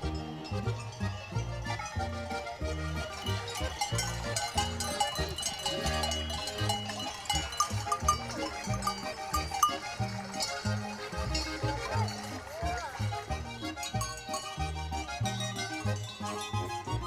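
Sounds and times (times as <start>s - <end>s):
bell-like ringing: 0.0s - 17.0s
traditional folk music: 0.0s - 17.0s.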